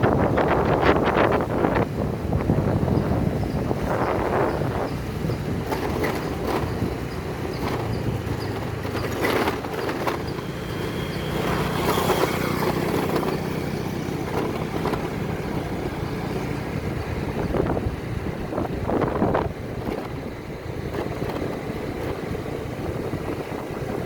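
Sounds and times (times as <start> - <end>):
engine running: 0.0 - 24.0
wind noise: 0.0 - 24.0.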